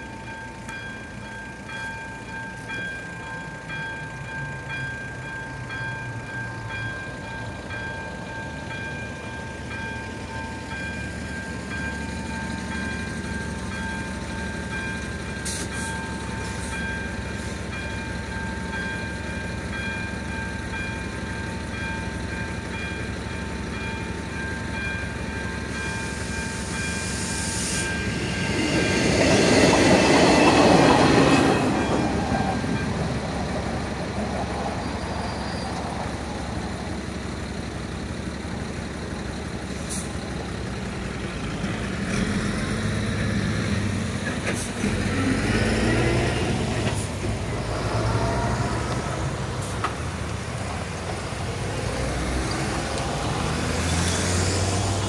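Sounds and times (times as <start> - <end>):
railcar passing: 0.0 - 55.0.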